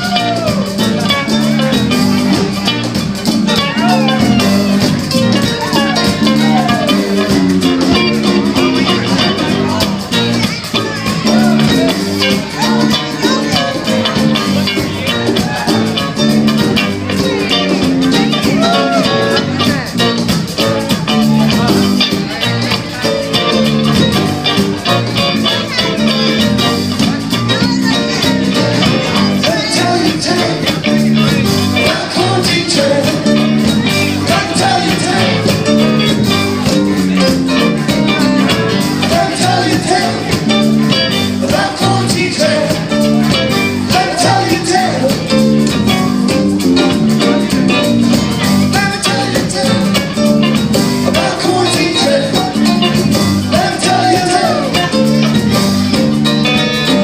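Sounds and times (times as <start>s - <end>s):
amplified guitar music: 0.0s - 57.0s
live band playing: 0.0s - 57.0s
person singing: 0.0s - 57.0s.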